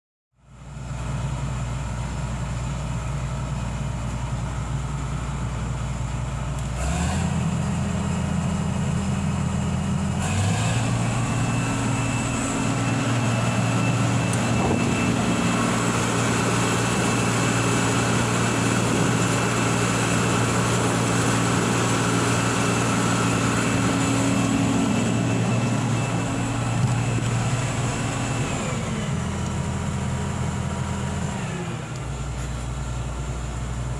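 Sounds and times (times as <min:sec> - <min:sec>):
diesel engine idling: 0:00.5 - 0:33.9.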